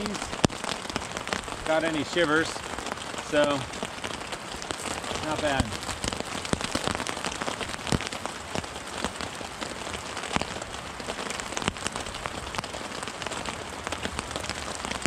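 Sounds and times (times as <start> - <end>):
rain falling on a tarp: 0.0 - 15.0.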